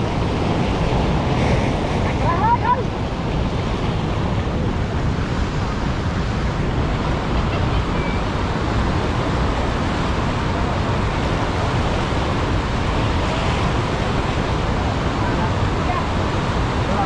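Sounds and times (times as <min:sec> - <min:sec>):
floodwater rushing over rapids: 0:00.0 - 0:17.0.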